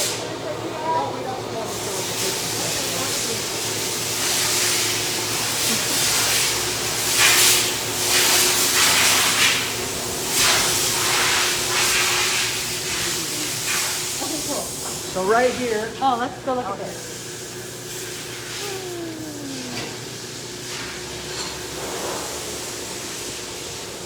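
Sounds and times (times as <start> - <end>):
faint machine hum: 0.0 - 24.0.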